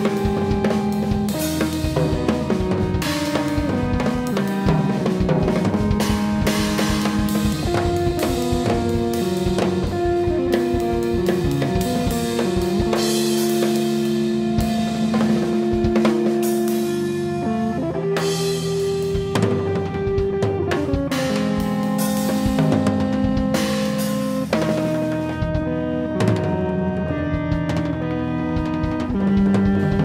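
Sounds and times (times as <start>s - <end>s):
drums and cymbals: 0.0s - 30.0s
electric guitar long notes: 0.0s - 30.0s.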